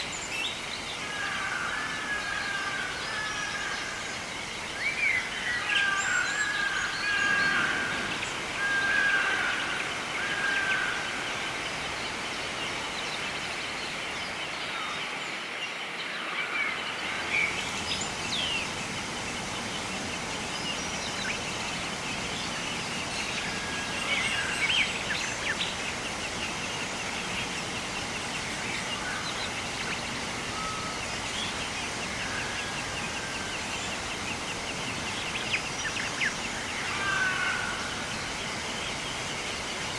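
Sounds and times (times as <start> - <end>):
bird calls and chirps: 0.0 - 39.9
steady hiss: 2.8 - 39.9.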